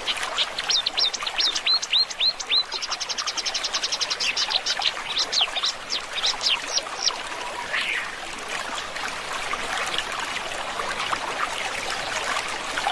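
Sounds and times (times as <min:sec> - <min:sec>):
water trickling in a stream: 0:00.0 - 0:12.9.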